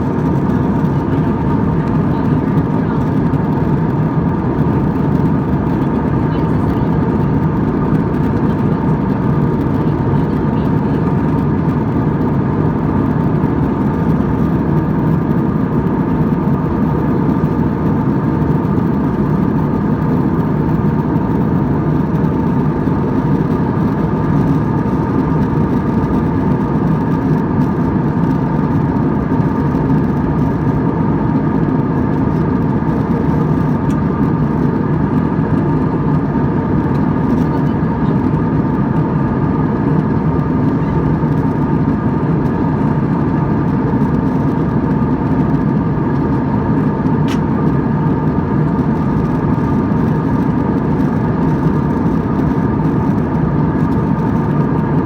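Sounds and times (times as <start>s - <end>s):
jet engine and airflow in cabin: 0.0s - 55.0s.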